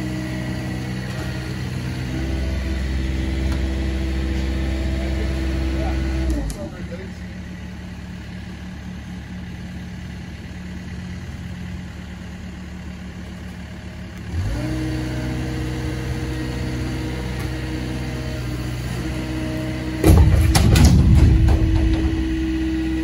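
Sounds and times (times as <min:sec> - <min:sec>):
diesel excavator engine revving: 0:00.0 - 0:23.0.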